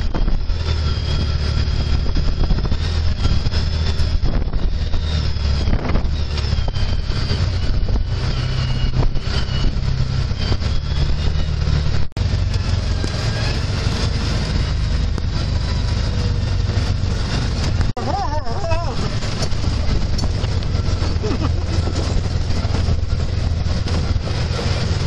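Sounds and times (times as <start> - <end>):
vehicle driving on gravel: 0.0 - 25.0.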